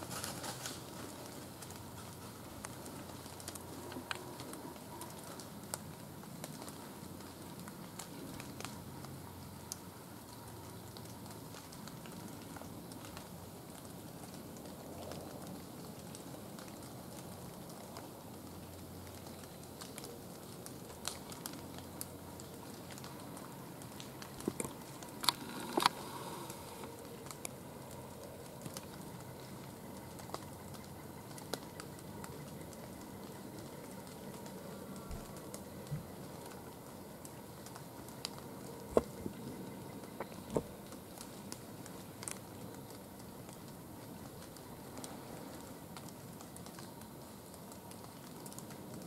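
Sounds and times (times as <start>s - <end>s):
rain pattering on leaves: 0.0s - 49.0s.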